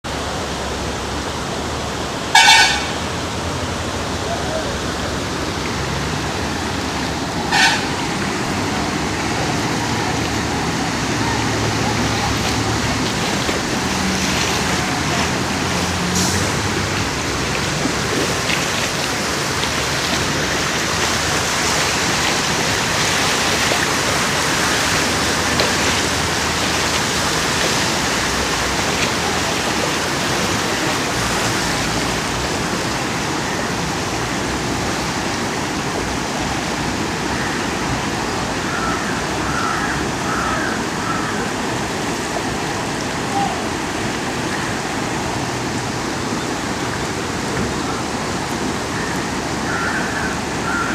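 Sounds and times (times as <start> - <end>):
floodwater rushing: 0.0 - 50.9.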